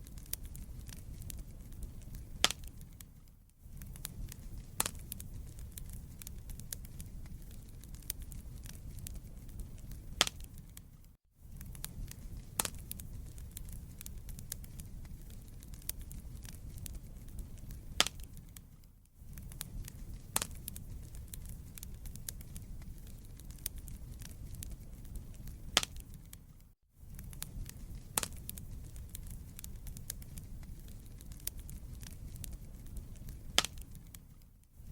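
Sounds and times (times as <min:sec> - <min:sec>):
logs popping: 0:00.0 - 0:10.9, 0:11.5 - 0:18.7, 0:19.3 - 0:26.5, 0:27.1 - 0:34.4
wood fire crackling: 0:00.0 - 0:34.9.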